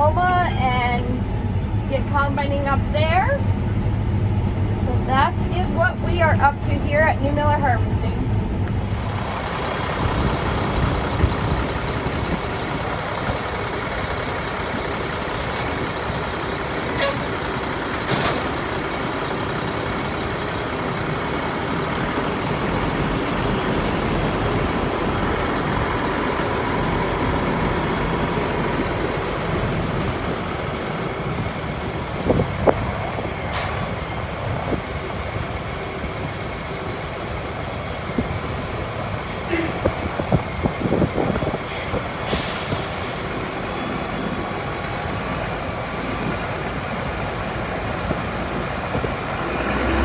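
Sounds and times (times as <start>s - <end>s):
diesel machinery running: 0.0s - 50.0s.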